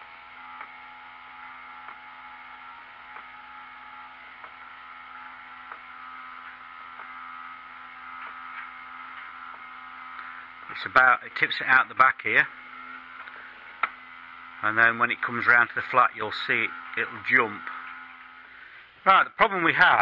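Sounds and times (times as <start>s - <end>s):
small gear motor running: 0.0s - 18.9s.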